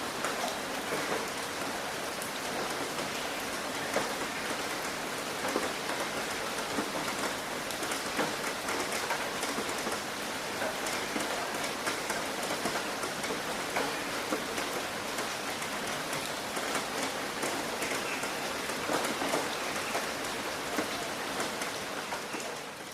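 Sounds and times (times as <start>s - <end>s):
rain drumming on a roof: 0.0s - 22.9s.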